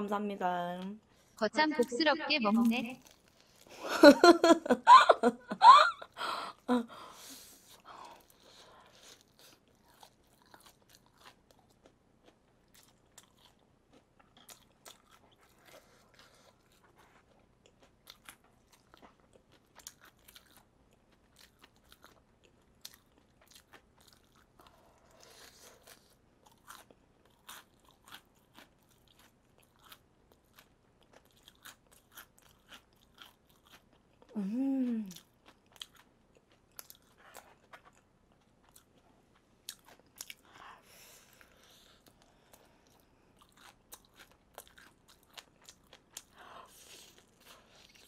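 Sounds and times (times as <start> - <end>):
crunching of fried chicken: 2.7 - 3.7, 7.7 - 34.4, 35.0 - 48.0.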